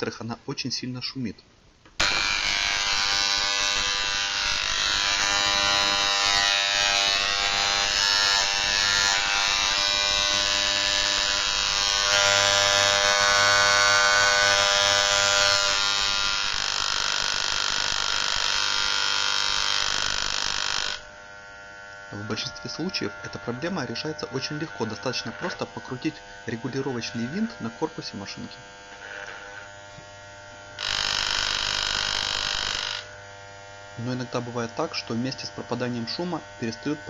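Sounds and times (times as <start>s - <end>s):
hair clipper buzzing: 2.0s - 37.0s.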